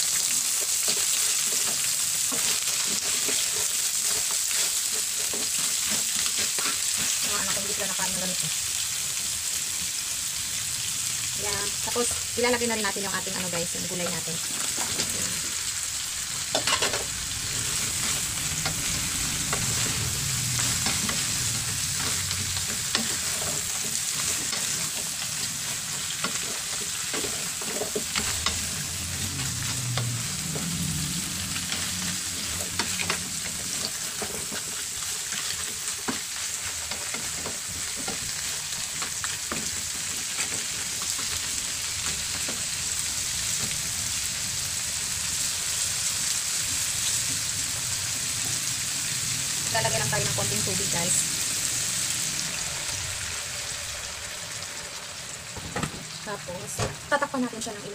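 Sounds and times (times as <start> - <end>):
oil sizzling in a frying pan: 0.0 - 57.9.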